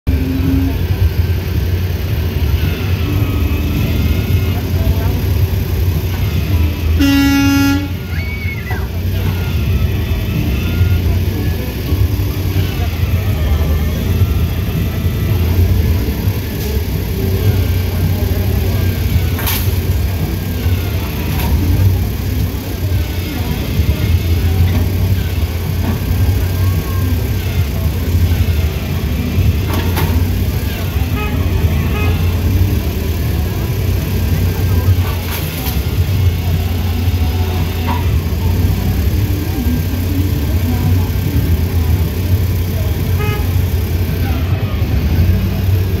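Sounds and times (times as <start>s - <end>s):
truck engine running: 0.0s - 46.0s.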